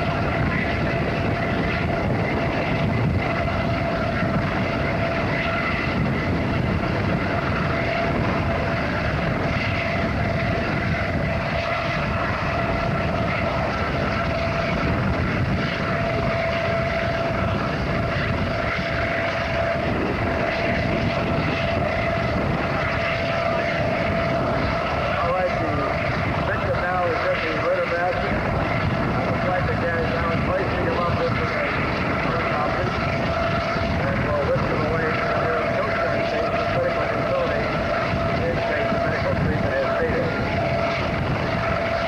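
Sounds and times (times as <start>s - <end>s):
propeller aircraft engine running: 0.0s - 42.0s.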